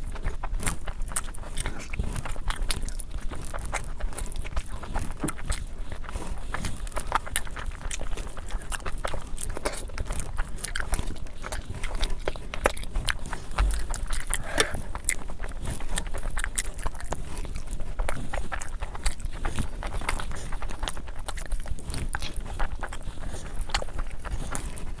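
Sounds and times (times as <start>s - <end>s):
chewing: 0.0s - 25.0s
mouth clicks and smacks: 0.0s - 25.0s.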